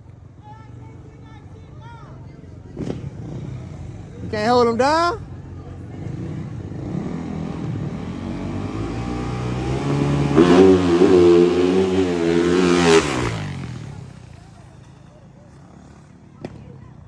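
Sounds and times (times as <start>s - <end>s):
dirt bike engine passing by: 0.1s - 17.0s.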